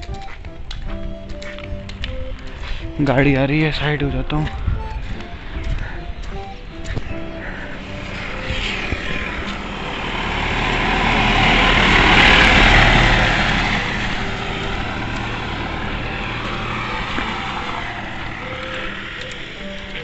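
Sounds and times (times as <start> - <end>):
motor vehicle driving past: 0.0 - 20.0.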